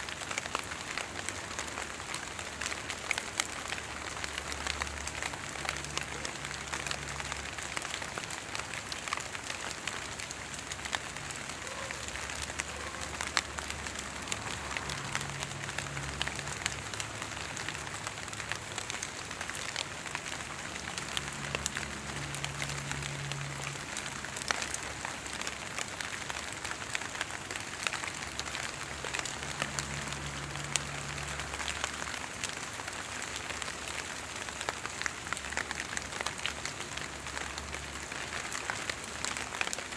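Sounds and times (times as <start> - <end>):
water droplets pattering on leaves: 0.1 - 39.9.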